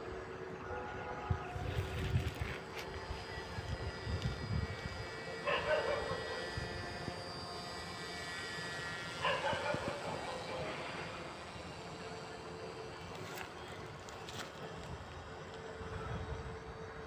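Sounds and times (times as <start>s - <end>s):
model aircraft motor whine: 0.0s - 17.0s.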